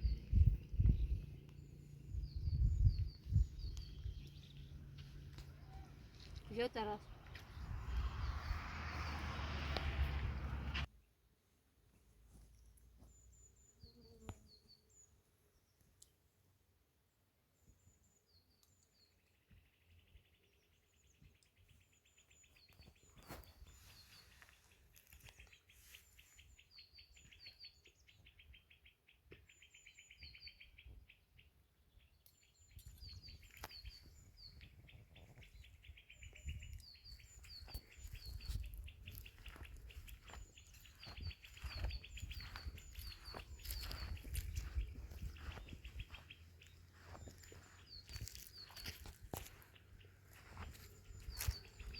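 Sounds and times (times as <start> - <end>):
birds chirping and trilling: 0.0 - 10.2, 17.9 - 51.9.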